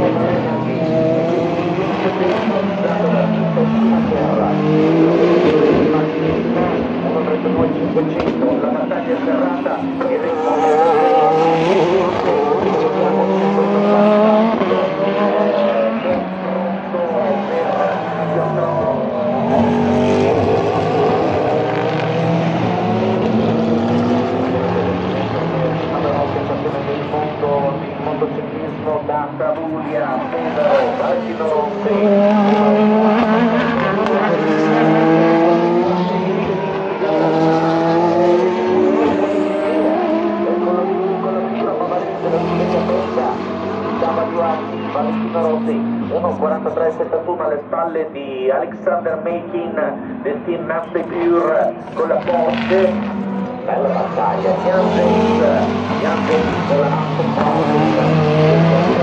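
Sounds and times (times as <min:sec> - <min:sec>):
race car engines revving high: 0:00.0 - 0:59.0.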